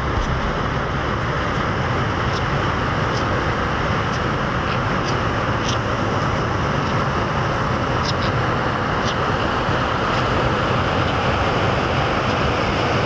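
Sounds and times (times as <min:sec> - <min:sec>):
steady loud rushing noise: 0:00.0 - 0:13.0.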